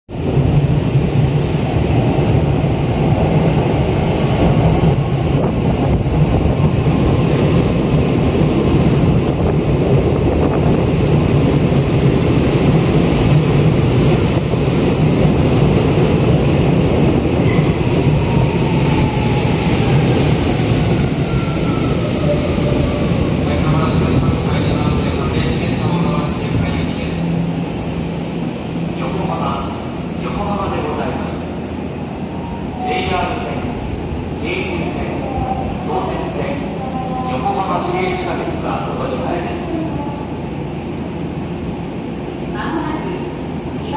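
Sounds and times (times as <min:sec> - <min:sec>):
rushing air: 0:00.1 - 0:43.9
train wheels rumbling on rail: 0:00.1 - 0:43.9.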